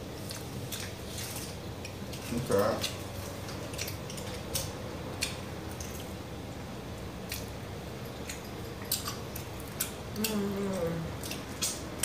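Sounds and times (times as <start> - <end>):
chewing and wet mouth sounds: 0.0 - 12.0.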